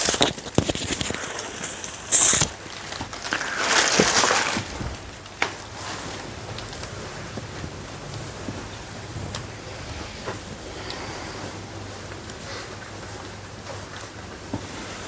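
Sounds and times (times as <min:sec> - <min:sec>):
plastic bags and cloth rustling: 0:00.0 - 0:15.0.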